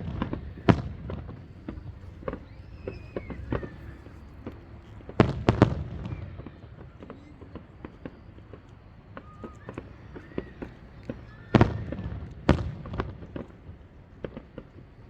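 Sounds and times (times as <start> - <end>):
fireworks booming: 0.0 - 15.0
fireworks crackling pops: 0.0 - 15.0.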